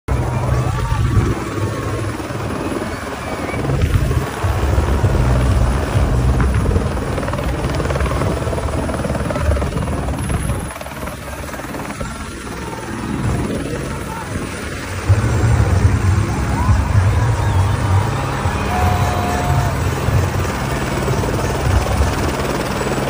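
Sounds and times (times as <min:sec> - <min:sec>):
helicopter rotor and engine: 0:00.1 - 0:23.0.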